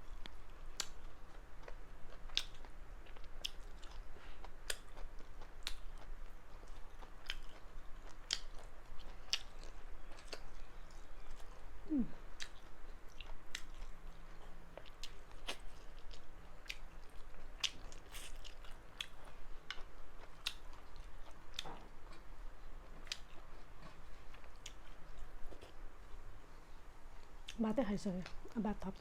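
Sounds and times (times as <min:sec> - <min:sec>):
person chewing food: 0:00.0 - 0:27.6.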